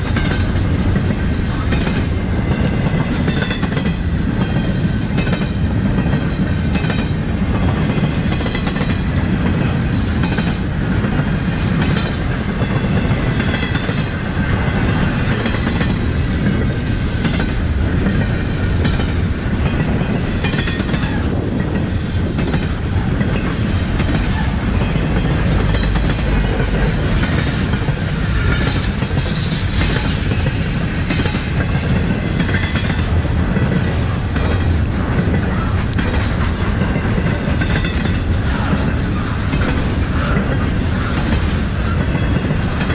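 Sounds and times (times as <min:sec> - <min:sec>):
freight train rumbling on rails: 0:00.0 - 0:42.9.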